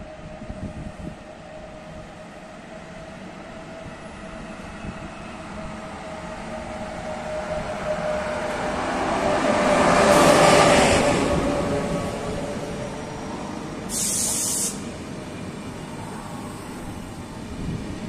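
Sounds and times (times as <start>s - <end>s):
electric locomotive passing: 0.0s - 18.0s
train coaches rolling by: 1.1s - 18.0s.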